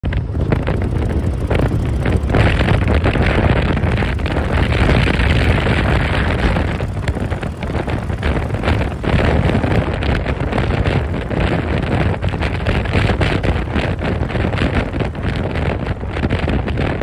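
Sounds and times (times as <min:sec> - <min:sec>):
motorcycle engine rumble: 0:00.0 - 0:17.0
wind buffeting camera: 0:00.0 - 0:17.0.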